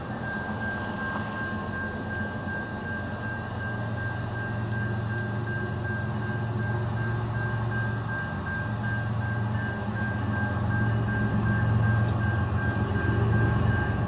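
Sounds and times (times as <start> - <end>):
crossing warning bell ringing: 0.0 - 14.0
train rumble: 0.0 - 14.0.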